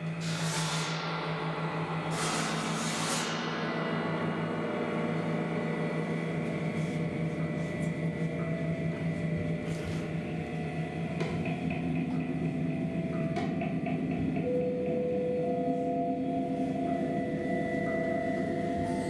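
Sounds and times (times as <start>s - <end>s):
large gong ringing: 0.9s - 19.0s.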